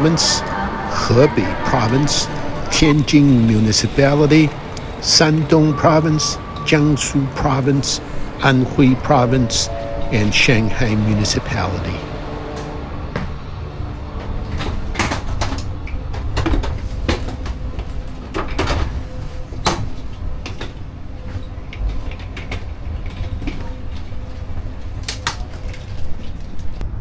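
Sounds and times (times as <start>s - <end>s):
train rumble from inside: 0.0s - 27.0s.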